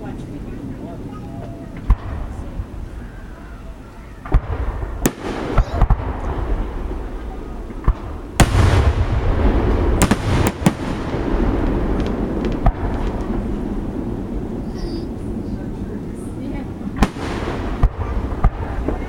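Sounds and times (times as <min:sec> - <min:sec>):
rumble of fireworks bursts: 0:00.0 - 0:19.0
fireworks bangs: 0:01.7 - 0:15.5, 0:16.5 - 0:19.0.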